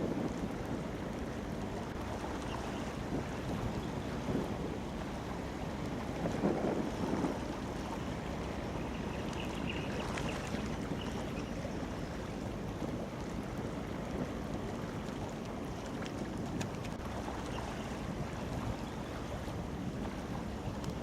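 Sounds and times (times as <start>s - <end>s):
ship engine low rumble: 0.0s - 21.0s
water wash: 0.0s - 21.0s
wind buffeting microphone: 0.0s - 21.0s.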